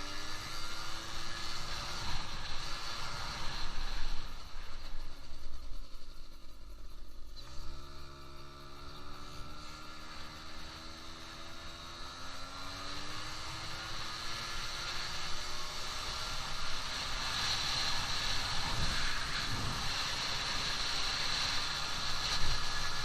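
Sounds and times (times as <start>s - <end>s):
scooter engine accelerating: 0.0s - 6.4s, 7.3s - 23.0s.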